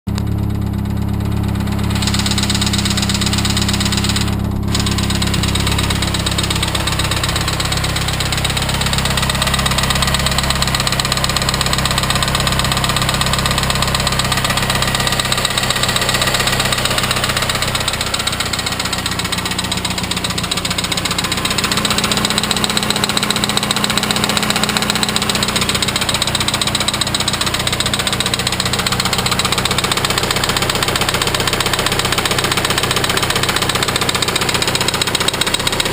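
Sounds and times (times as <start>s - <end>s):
car engine idling with knock: 0.1s - 35.9s.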